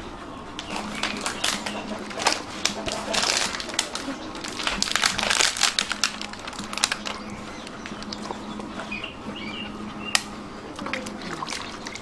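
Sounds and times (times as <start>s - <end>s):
dogs crunching biscuits: 0.6s - 12.0s.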